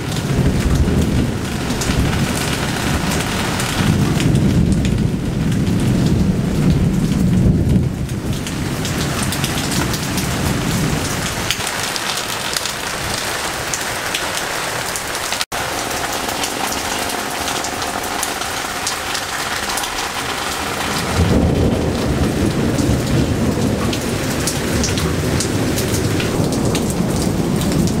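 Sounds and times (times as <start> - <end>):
heavy rain on leaves and paving: 0.0 - 28.0
thunder rumble: 0.0 - 28.0.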